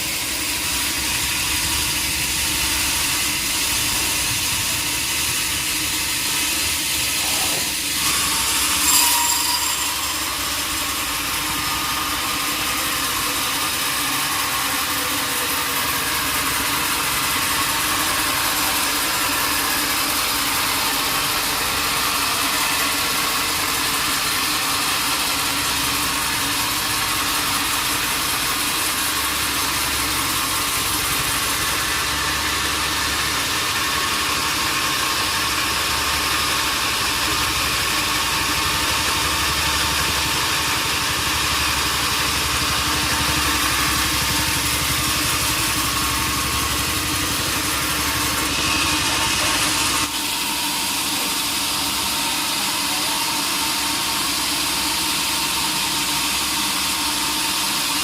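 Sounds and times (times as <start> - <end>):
sawmill machinery hissing and humming: 0.0 - 58.0.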